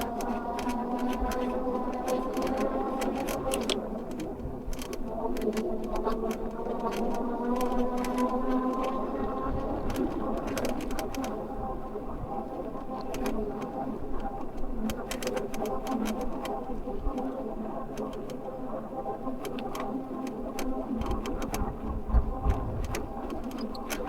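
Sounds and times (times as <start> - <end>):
sharp clicks and rattles: 0.0 - 11.4, 12.8 - 17.3, 19.4 - 24.0
electric bike motor whining: 0.0 - 16.6, 21.0 - 24.0.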